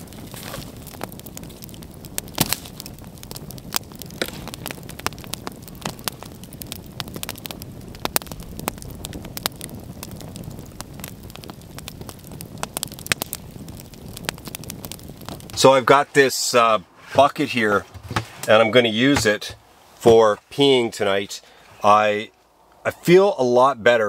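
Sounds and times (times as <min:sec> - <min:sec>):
low rush of burning: 0:00.0 - 0:23.0
campfire crackling and popping: 0:00.0 - 0:23.2.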